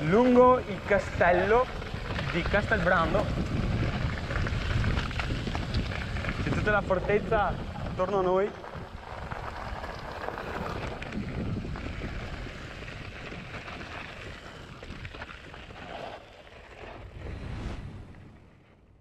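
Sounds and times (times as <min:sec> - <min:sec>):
bike rattling: 0:00.0 - 0:17.4
wind rumbling on microphone: 0:00.0 - 0:19.0.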